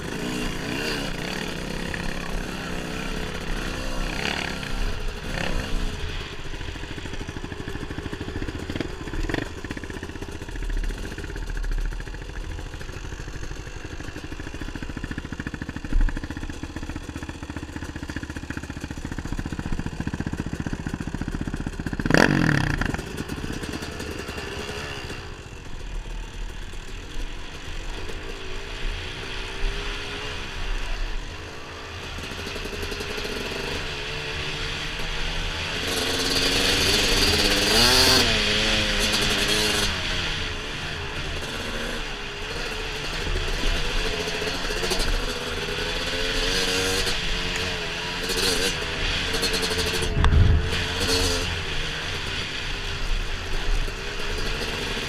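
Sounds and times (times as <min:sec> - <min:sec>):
dirt bike engine revving: 0:00.0 - 0:26.2, 0:32.1 - 0:55.0.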